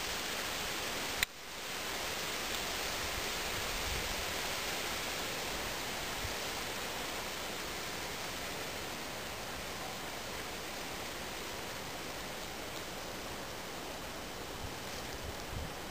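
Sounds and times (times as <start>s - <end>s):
steady rushing hiss: 0.0s - 15.9s.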